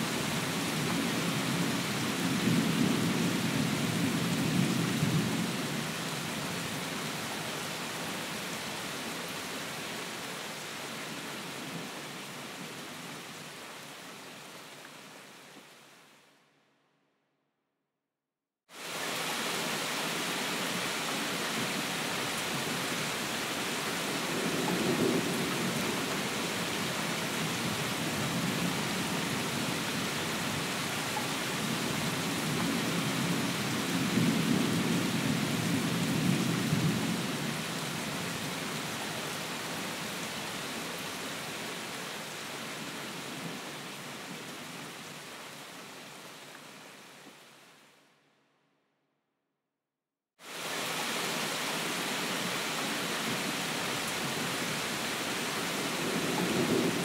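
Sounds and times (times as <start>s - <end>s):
steady rain in forest: 0.0s - 16.6s, 18.7s - 48.2s, 50.4s - 57.0s.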